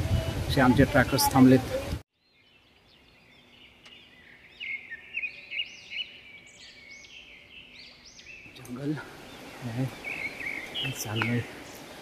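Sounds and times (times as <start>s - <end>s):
birds chirping: 0.1s - 12.0s
faint forest ambience: 2.1s - 12.0s.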